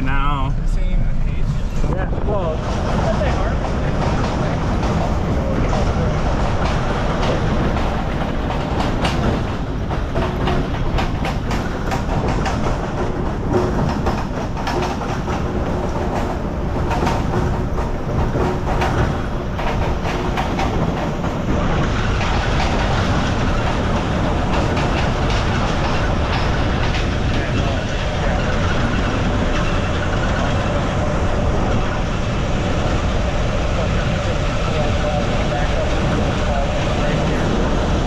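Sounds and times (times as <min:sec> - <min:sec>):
trailer rattling and clanking: 0:00.0 - 0:38.0.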